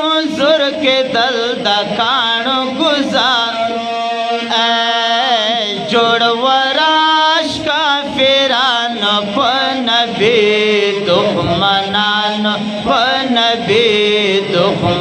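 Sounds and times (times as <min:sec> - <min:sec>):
men singing into microphones: 0:00.0 - 0:15.0.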